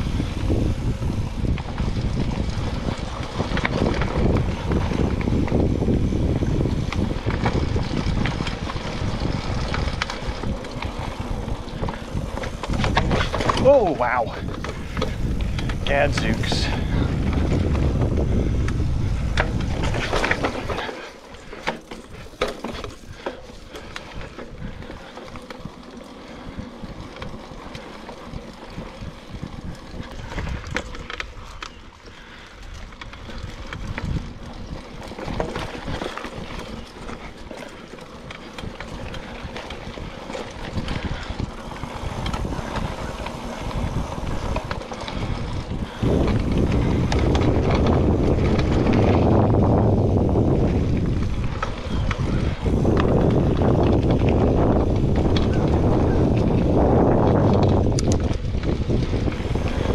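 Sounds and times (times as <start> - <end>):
bike tyres rattling on dirt trail: 0.0 - 59.9
wind on microphone: 0.0 - 59.9.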